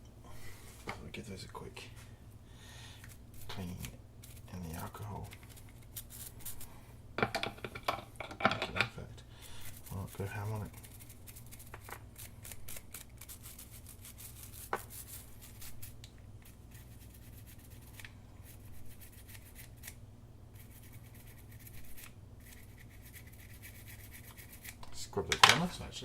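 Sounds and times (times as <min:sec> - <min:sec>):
steady low hum: 0:00.0 - 0:26.0
scratchy scrubbing of metal contacts: 0:03.0 - 0:20.0, 0:20.6 - 0:24.8.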